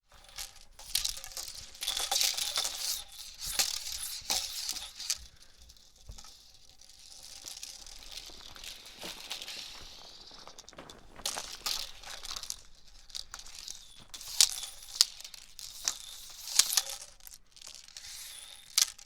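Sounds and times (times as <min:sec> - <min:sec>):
hula hoop clicks: 0:00.1 - 0:19.0
hula hoop swishing: 0:00.1 - 0:19.0.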